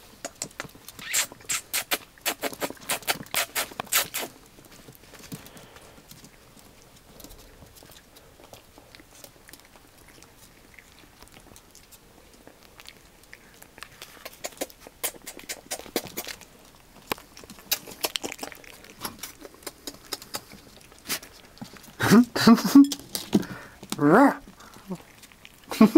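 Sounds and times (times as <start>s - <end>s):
puppies chewing: 0.0s - 25.9s.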